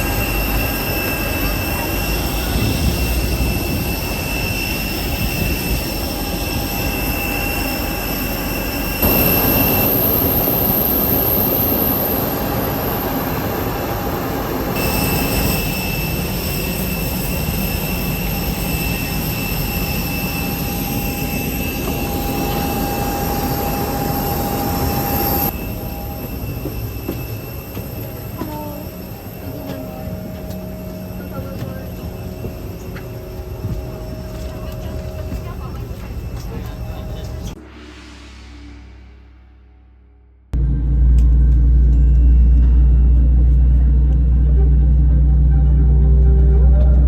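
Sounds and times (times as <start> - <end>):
jet airliner whine: 0.0 - 39.8, 40.5 - 47.0
high held tones: 0.0 - 40.7.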